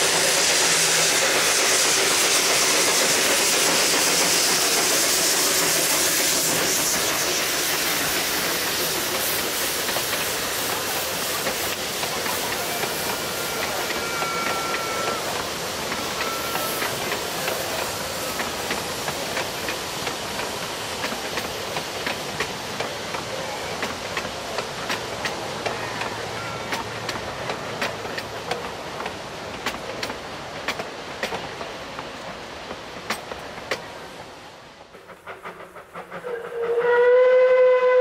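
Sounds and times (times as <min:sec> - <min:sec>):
train wheels clicking over rails: 0:00.0 - 0:36.9.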